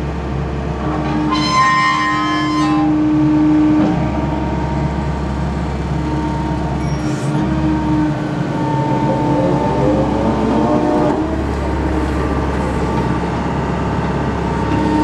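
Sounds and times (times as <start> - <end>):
diesel engine running: 0.0 - 15.0
whining tones: 1.0 - 15.0.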